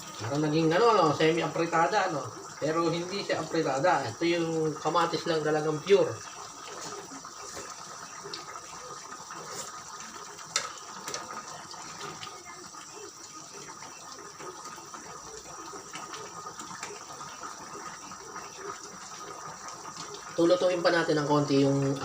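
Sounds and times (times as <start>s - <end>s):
sauce bubbling in a pan: 0.0s - 22.0s.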